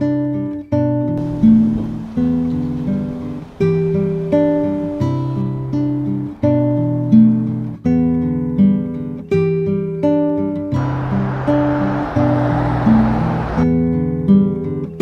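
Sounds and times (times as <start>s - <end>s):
acoustic guitar plucking: 0.7s - 14.9s.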